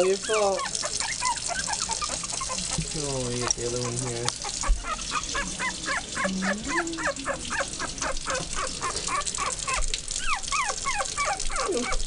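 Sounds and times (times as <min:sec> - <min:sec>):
puppy whining and yipping: 0:00.0 - 0:02.8, 0:03.8 - 0:12.0.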